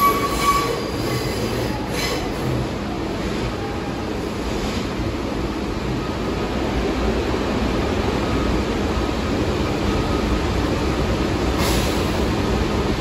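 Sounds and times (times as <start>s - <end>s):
subway car rumble and hum: 0.0s - 13.0s.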